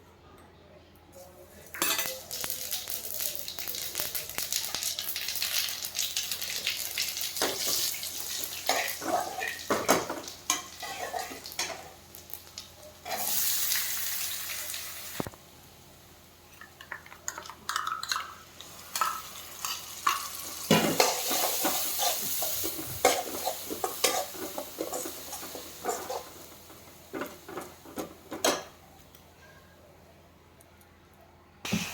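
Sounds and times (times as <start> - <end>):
food sizzling: 1.9 - 28.4.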